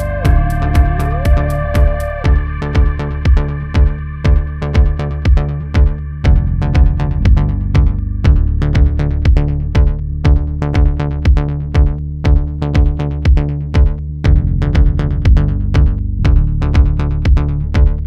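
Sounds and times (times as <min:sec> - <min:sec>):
drum-machine beat: 0:00.0 - 0:18.0
sustained bass line: 0:00.0 - 0:18.0.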